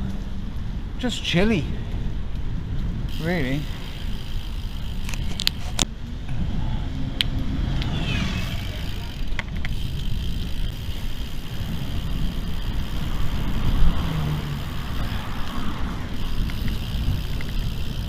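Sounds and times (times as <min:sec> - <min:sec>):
bike tyres rolling on gravel: 0:00.0 - 0:06.3, 0:08.4 - 0:18.0
bike clicks and rattles: 0:00.0 - 0:06.5, 0:07.2 - 0:18.0
wind on microphone: 0:01.7 - 0:18.0.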